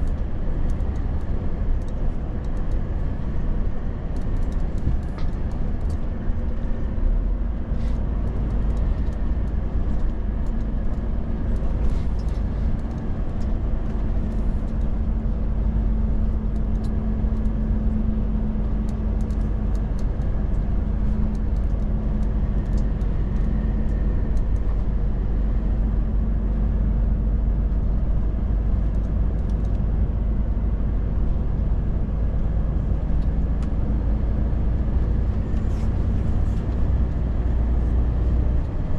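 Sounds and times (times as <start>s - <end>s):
road rumble: 0.0s - 38.9s
truck diesel engine drone: 0.0s - 38.9s.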